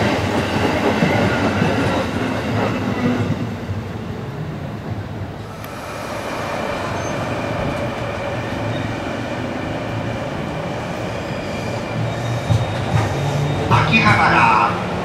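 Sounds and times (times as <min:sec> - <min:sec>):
train rail running noise: 0:00.0 - 0:15.0.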